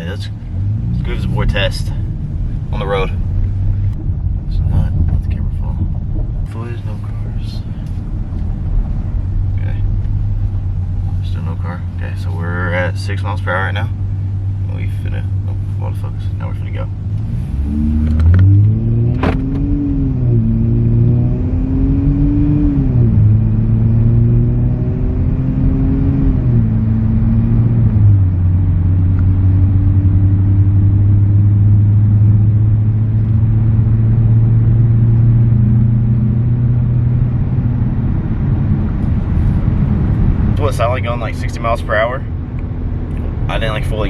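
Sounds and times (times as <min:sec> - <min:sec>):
car exhaust accelerating through gears: 0:00.0 - 0:44.0.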